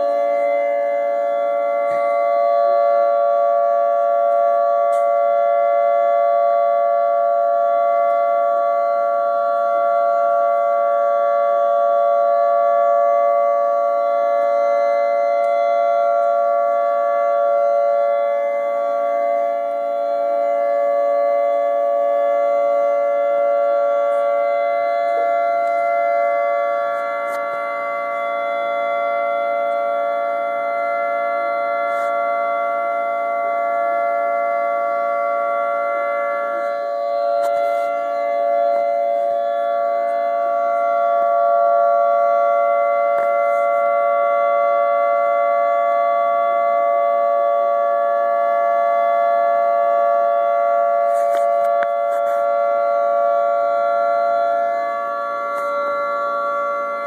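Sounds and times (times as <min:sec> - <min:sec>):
outdoor warning sirens: 0:00.0 - 0:57.0.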